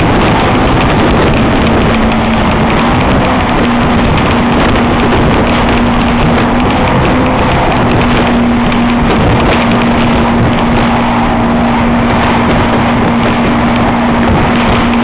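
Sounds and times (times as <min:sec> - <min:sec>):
outboard motor running: 0:00.0 - 0:15.0
rushing wake water: 0:00.0 - 0:15.0
wind: 0:00.0 - 0:15.0.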